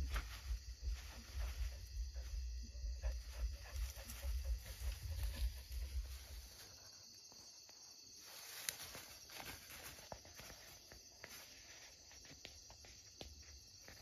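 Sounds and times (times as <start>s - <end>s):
dry grass rustling: 0.0s - 14.0s
night insects chirring: 0.0s - 14.0s.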